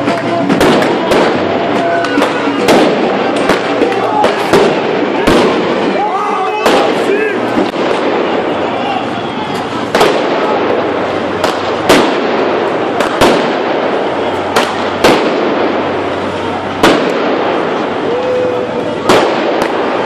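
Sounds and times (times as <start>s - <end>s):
fireworks banging: 0.0s - 20.0s
steady loud din: 0.0s - 20.0s.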